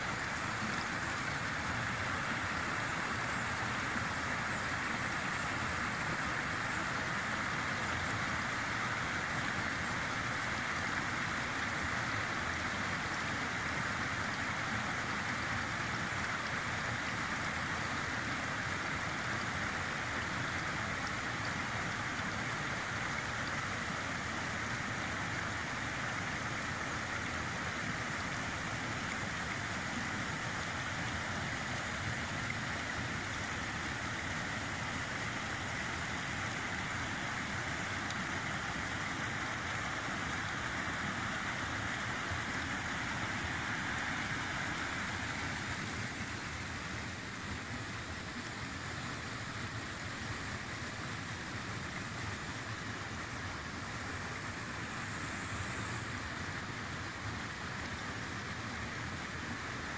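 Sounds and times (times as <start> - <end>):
river water flowing over rocks: 0.0 - 59.9.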